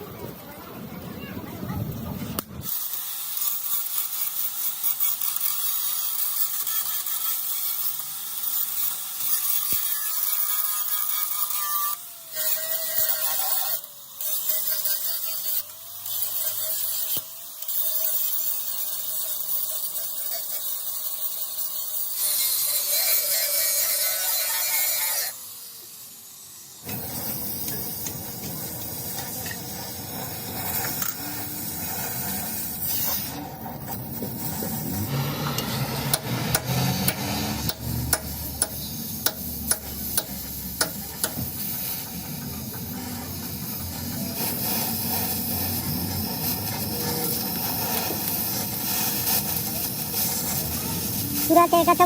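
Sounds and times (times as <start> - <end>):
fuller tool noise: 2.0 - 52.0
power tool hiss and whine: 2.4 - 52.0.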